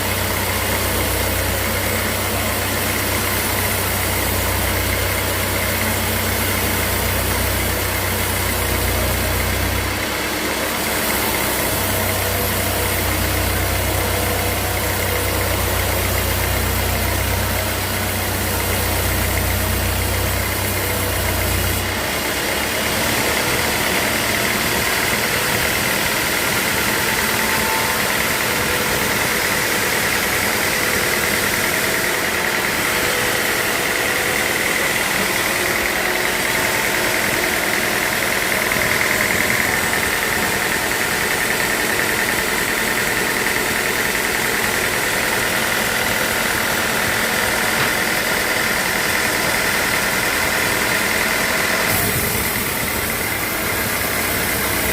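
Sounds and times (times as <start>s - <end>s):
sawmill machinery high tone: 0.0s - 54.9s.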